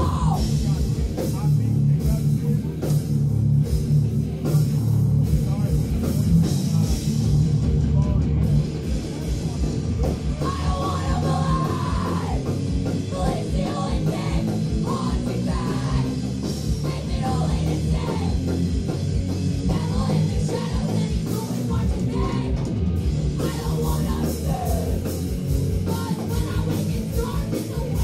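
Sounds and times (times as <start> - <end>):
fast heavy drumming: 0.0 - 28.0
heavy rock band: 0.0 - 28.0.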